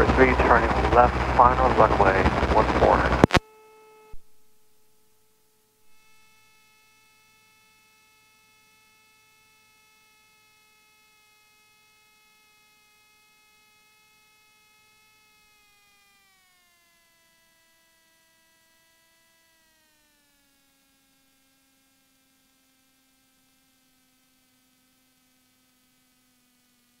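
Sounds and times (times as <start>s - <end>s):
electrical hum with whine: 0.0s - 27.0s.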